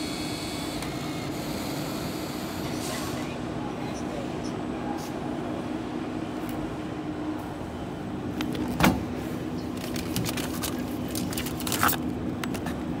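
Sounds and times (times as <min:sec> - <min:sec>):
vending machine hum: 0:00.0 - 0:13.0.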